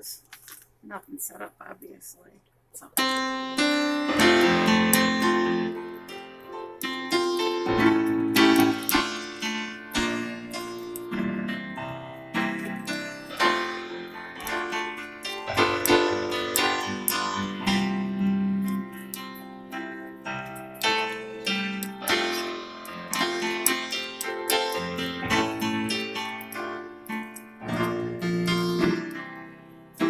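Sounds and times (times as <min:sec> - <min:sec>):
electronic keyboard piano melody: 0:03.0 - 0:30.0.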